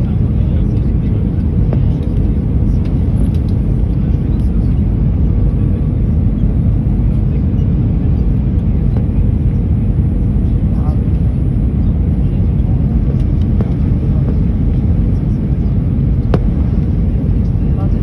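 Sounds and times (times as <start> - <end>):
jet engine and airflow rush: 0.0 - 18.0.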